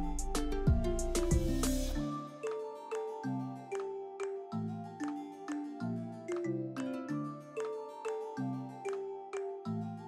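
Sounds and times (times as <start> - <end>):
light melody over held chords: 0.0 - 10.0.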